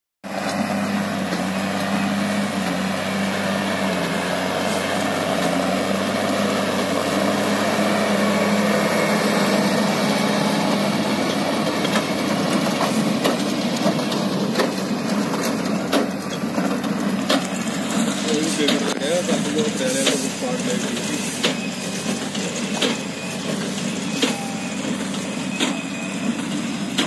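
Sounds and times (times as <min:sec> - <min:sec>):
tractor diesel engine running: 0:00.2 - 0:27.0
baler machinery clattering: 0:00.3 - 0:27.0.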